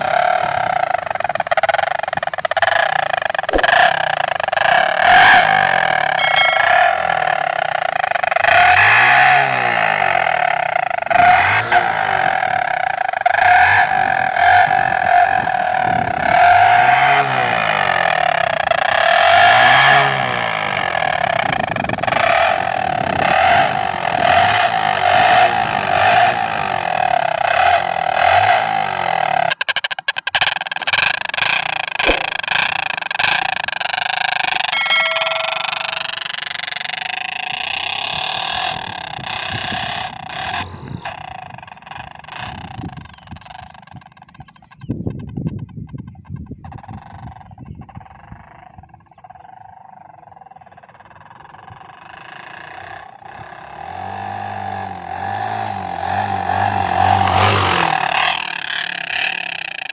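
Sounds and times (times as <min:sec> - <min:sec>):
motorcycle exhaust pulsing: 0:00.0 - 0:59.9.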